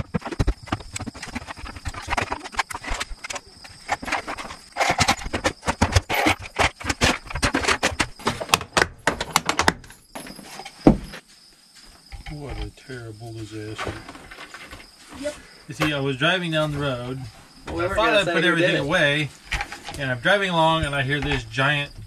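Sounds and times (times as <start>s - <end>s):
plastic bins knocking together: 0.0s - 11.2s, 13.7s - 22.0s.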